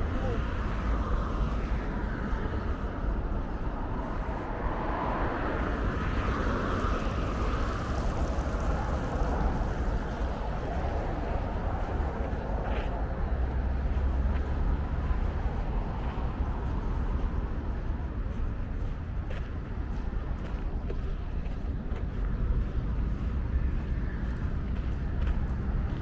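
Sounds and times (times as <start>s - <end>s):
road traffic rumble: 0.0s - 26.0s
wind buffeting microphone: 0.0s - 26.0s.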